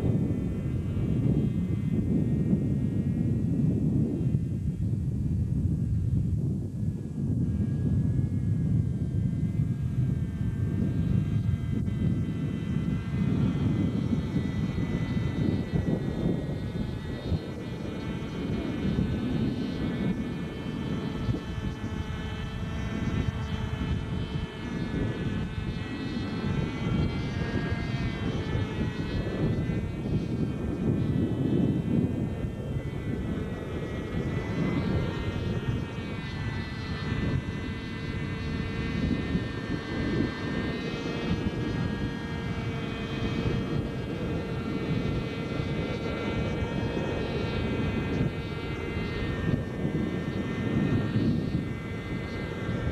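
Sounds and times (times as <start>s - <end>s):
low rushing rotor noise: 0.0s - 52.9s
model helicopter engine whine: 0.0s - 52.9s.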